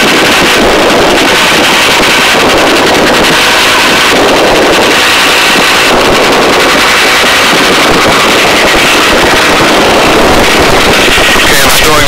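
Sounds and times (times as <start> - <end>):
helicopter rotor and engine: 0.0 - 12.0.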